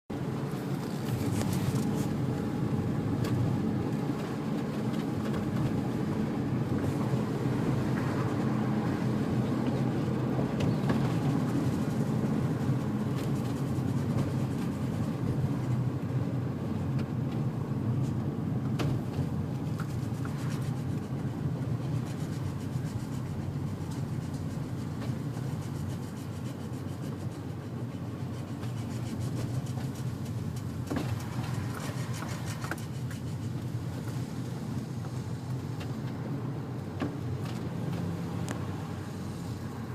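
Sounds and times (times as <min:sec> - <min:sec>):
car road and drivetrain noise: 0:00.1 - 0:39.9.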